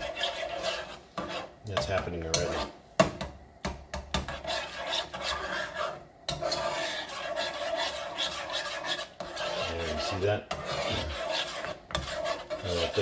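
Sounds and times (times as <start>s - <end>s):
metal spoon scraping a pot: 0.0s - 2.8s, 4.2s - 13.0s.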